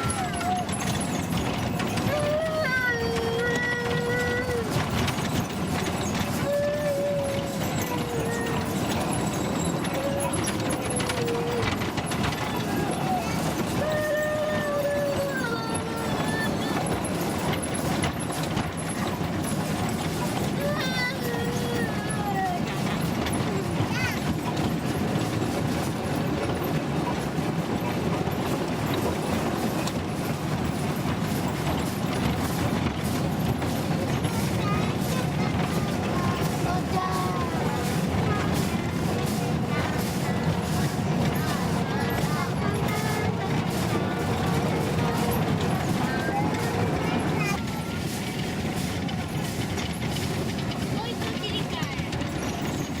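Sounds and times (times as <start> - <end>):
light clicking and clatter: 0.0 - 53.0
train wheels rumbling on rail: 0.0 - 53.0.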